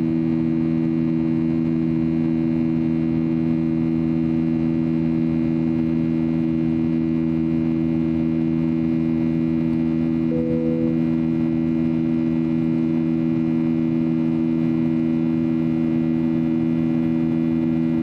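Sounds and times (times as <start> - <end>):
airplane engine drone: 0.0 - 18.0.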